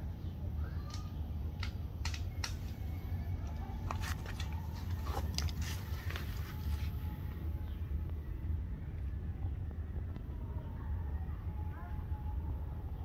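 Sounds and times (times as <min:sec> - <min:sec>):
street background rumble: 0:00.0 - 0:13.0.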